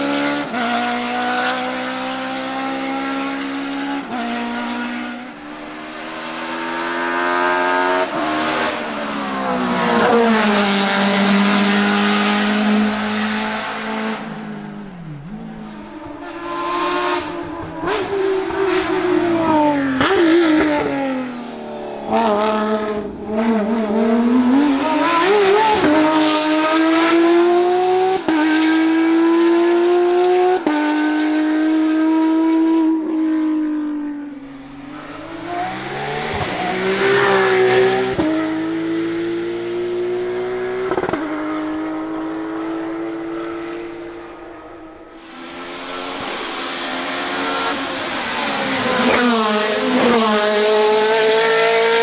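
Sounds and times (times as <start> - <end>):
racing car engines at full throttle: 0.0 - 52.0.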